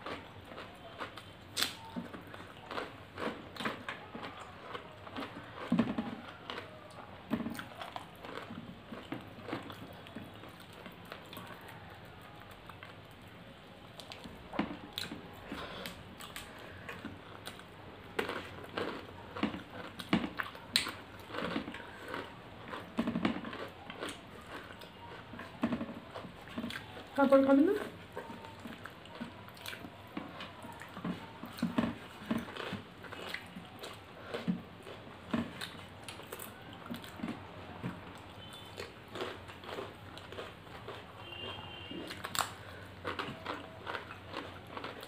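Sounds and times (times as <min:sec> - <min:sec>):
chewing and lip-smacking: 0:00.0 - 0:45.0.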